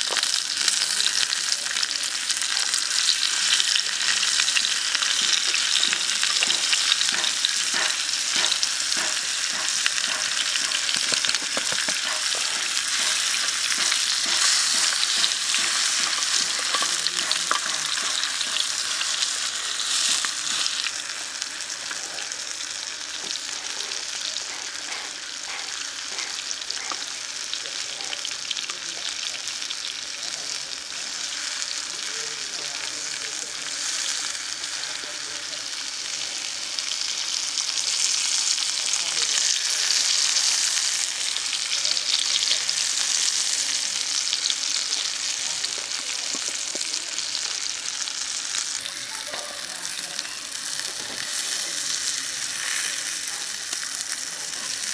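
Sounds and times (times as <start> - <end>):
meat sizzling in hot oil: 0.0 - 54.9.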